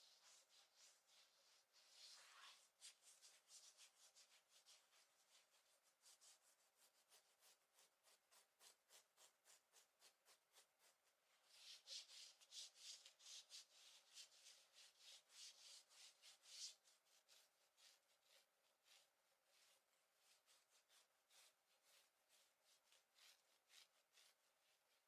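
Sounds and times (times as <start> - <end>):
scratching on clothing fabric: 0.0 - 25.0.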